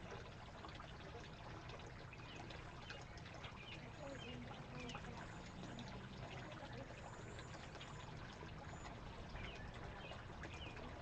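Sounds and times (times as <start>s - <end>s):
faint trickle of water: 0.0s - 11.0s.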